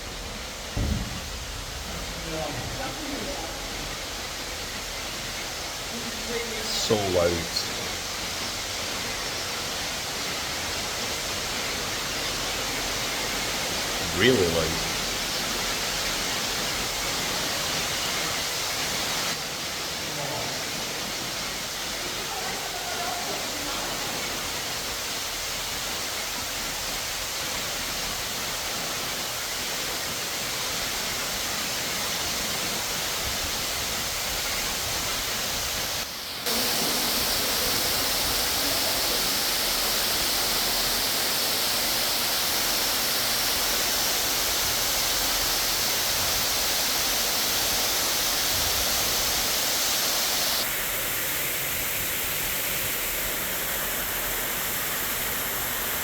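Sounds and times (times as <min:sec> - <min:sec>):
large waterfall pouring: 0:00.0 - 0:56.0.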